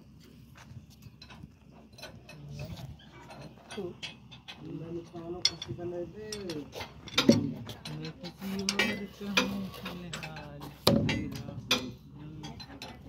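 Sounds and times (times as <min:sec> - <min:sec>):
spanners clinking on steel: 0:01.1 - 0:13.0.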